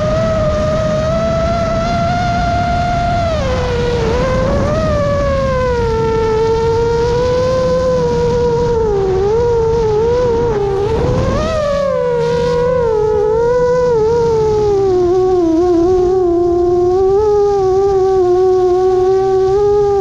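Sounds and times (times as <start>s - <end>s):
drone propellers whining: 0.0s - 20.0s
prop wash and wind rushing: 0.0s - 20.0s.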